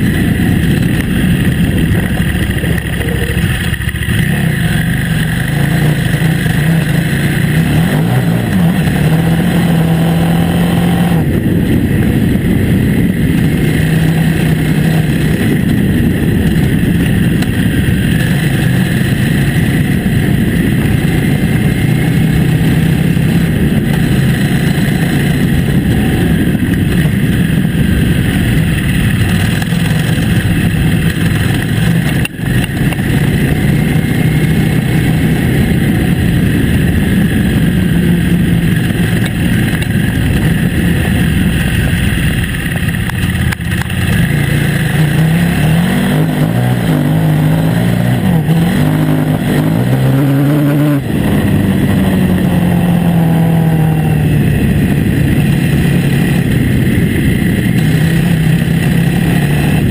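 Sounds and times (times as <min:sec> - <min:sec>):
motorcycle engine running: 0:00.0 - 0:59.9
wind and tyre noise: 0:00.0 - 0:59.9.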